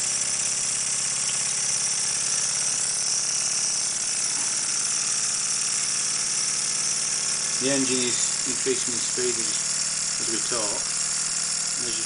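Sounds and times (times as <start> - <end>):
model steam engine exhaust beats: 0.0 - 12.0
air hissing: 1.0 - 12.0.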